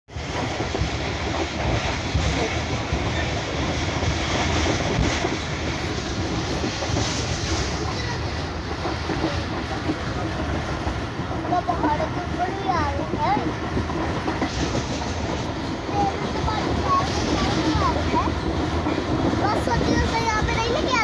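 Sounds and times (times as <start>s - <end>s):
train wheels rumbling on rails: 0.1s - 21.0s.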